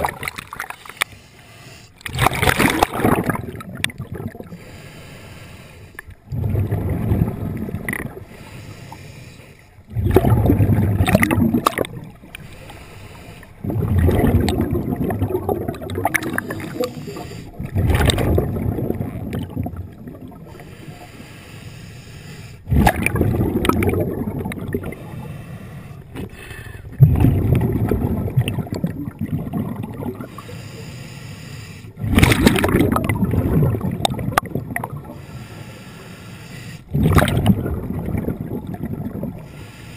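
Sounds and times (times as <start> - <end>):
quiet water noise: 0.0 - 39.9
underwater gurgling and rumbling: 0.0 - 39.9.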